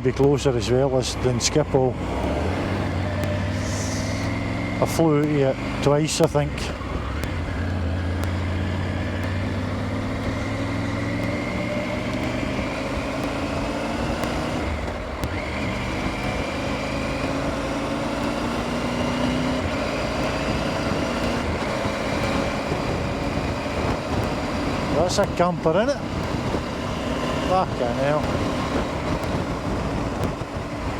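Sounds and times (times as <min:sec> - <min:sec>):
motorcycle engine pulling: 0:00.0 - 0:30.9
wind and road noise: 0:00.0 - 0:30.9.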